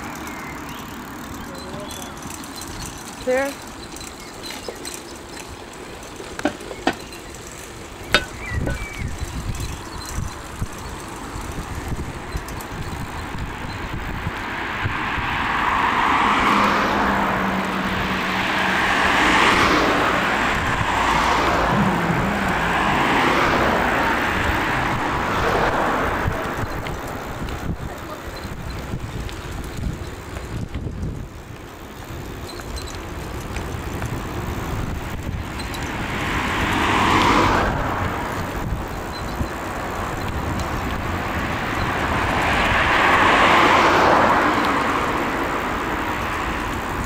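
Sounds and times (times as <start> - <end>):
road traffic rushing: 0.0 - 47.0.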